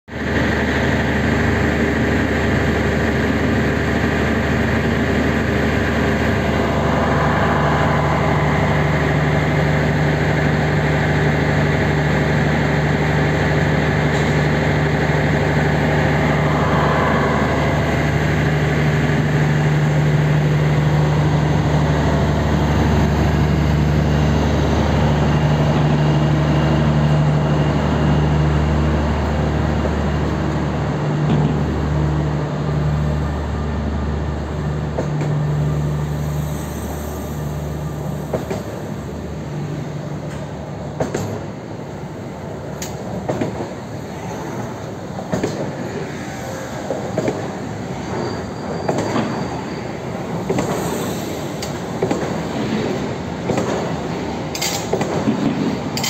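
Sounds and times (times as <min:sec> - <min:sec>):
electric train humming: 0:00.1 - 0:56.0.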